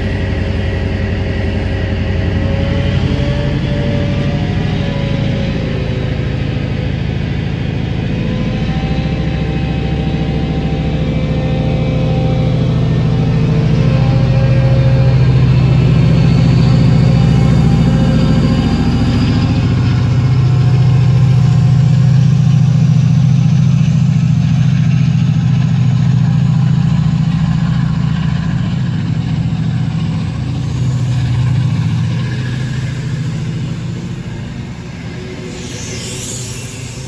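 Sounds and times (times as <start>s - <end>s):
diesel locomotive engine droning: 0.0s - 37.0s
train coaches rolling: 0.0s - 37.0s.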